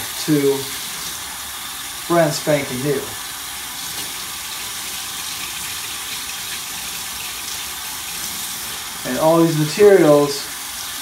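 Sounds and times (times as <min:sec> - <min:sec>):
faucet running into metal sink: 0:00.0 - 0:11.0.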